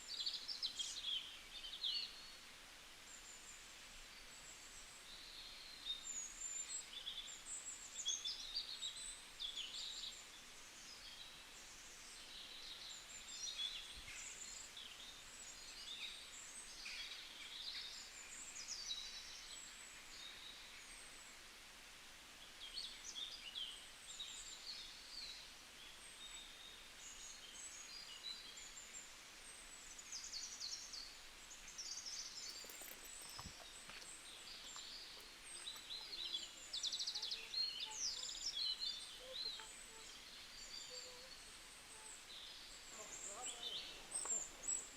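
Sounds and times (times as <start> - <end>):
faint outdoor hiss: 0.0 - 44.9
wild birds chirping and singing: 3.1 - 21.3, 22.6 - 44.9.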